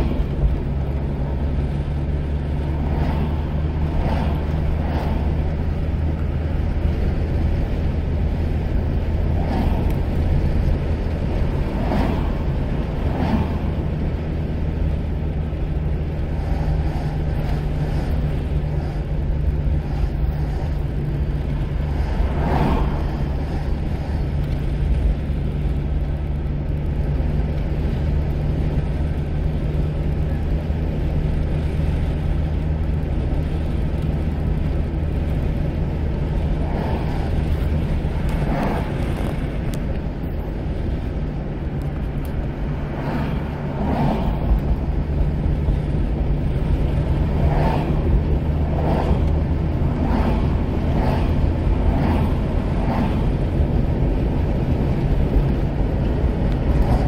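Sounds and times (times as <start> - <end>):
car engine and road hum: 0.0 - 57.0.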